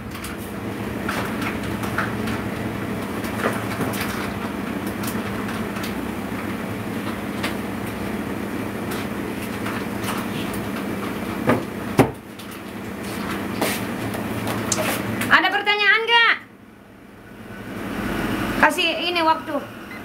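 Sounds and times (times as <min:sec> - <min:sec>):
kitchen equipment humming: 0:00.0 - 0:20.0.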